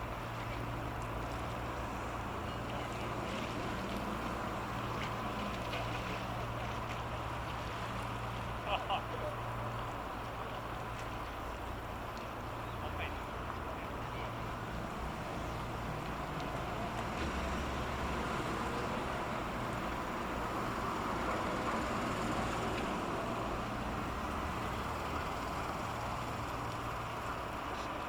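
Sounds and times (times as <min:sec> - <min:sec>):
tug diesel engine rumbling: 0:00.0 - 0:28.0
water wash: 0:00.0 - 0:28.0.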